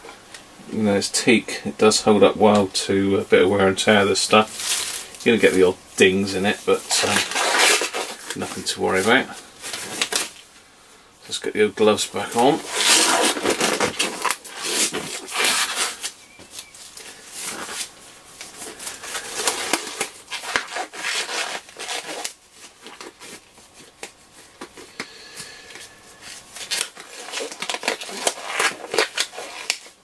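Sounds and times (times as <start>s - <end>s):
rubber gloves rubbing and snapping: 3.9s - 10.4s, 11.8s - 30.0s.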